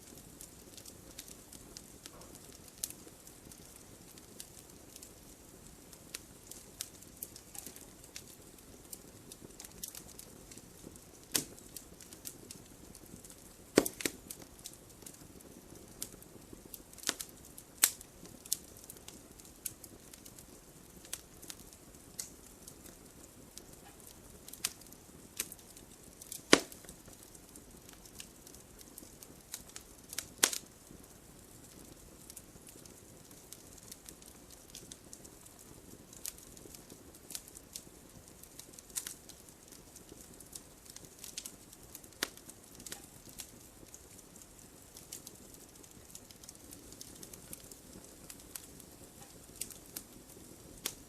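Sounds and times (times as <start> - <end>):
campfire crackling and popping: 0.0 - 51.0
fire hissing: 0.0 - 51.0.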